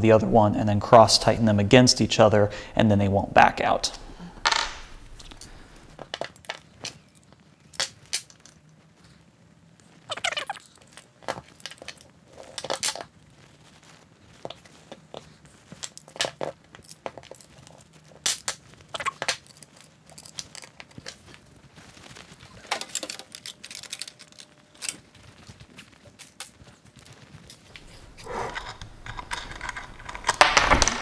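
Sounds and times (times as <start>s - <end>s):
handling rustle: 4.9s - 31.0s.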